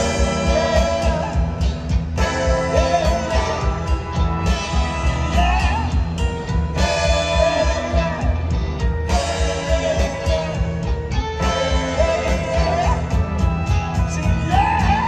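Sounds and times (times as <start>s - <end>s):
drum kit beat: 0.0s - 15.0s
electric guitar: 0.0s - 15.0s.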